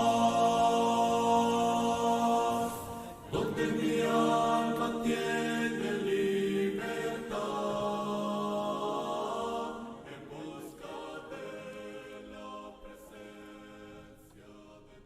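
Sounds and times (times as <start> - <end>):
voices singing worship song: 0.0 - 15.0.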